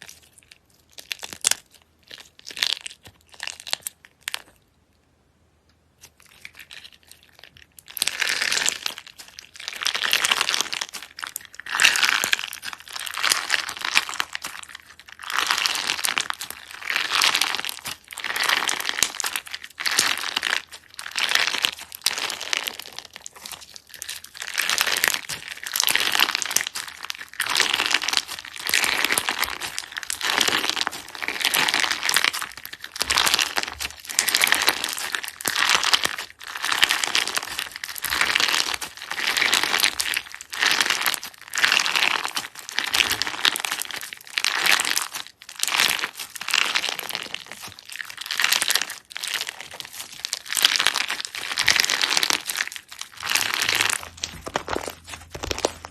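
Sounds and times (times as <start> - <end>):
slime crackling when squeezed: 6.0 - 55.9.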